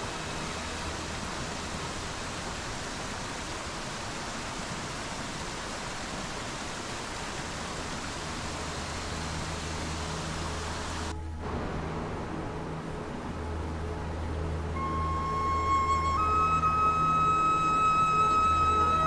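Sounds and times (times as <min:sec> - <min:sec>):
stream rushing over boulders: 0:00.0 - 0:19.0.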